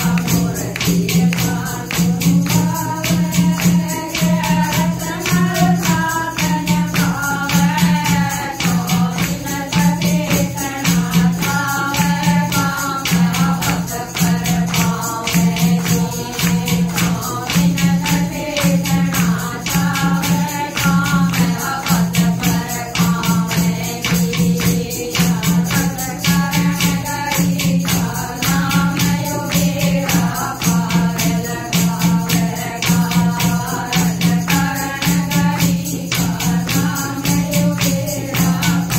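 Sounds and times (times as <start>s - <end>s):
beat on clay pot: 0.0s - 38.9s
hand-clapping: 0.0s - 38.9s
women singing together: 0.0s - 38.9s.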